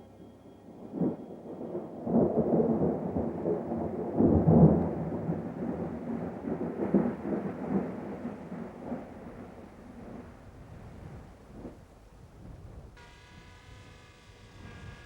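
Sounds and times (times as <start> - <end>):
thunder rumbling: 0.6 - 15.0.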